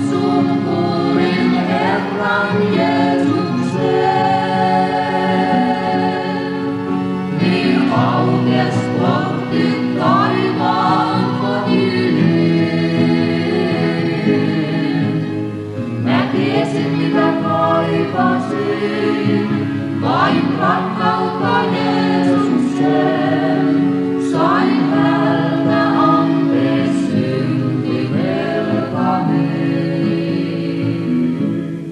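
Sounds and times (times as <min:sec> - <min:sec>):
youth choir singing: 0:00.0 - 0:31.9.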